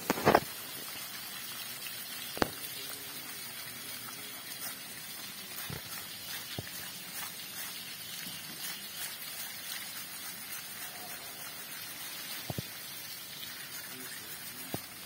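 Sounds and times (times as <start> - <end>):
water running over wet ground: 0.0 - 15.0.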